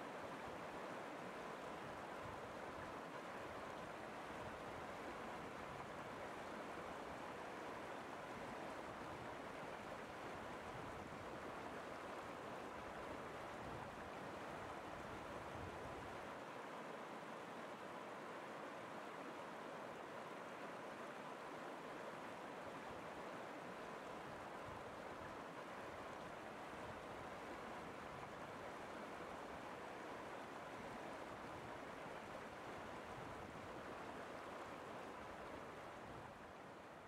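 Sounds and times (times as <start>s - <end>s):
stream flowing: 0.0s - 37.0s.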